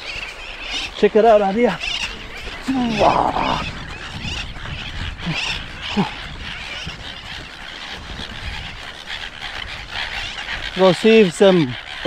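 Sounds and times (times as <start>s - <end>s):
seabirds calling: 0.0s - 12.0s
wind on microphone: 0.0s - 12.0s.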